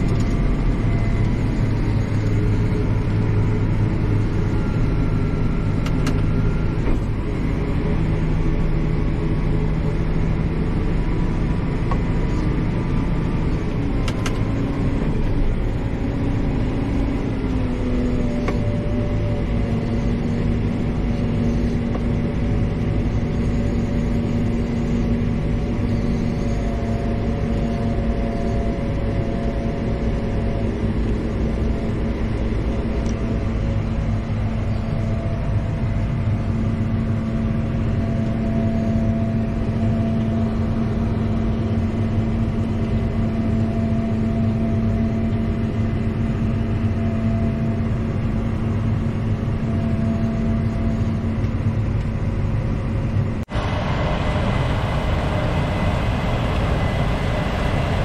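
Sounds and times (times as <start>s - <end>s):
tractor engine drone: 0.0s - 58.0s.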